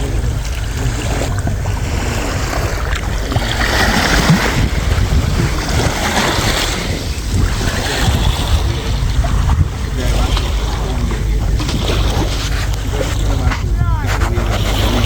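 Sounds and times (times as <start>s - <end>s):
low steady rumble: 0.0s - 15.0s
sea waves washing on shore: 0.0s - 15.0s.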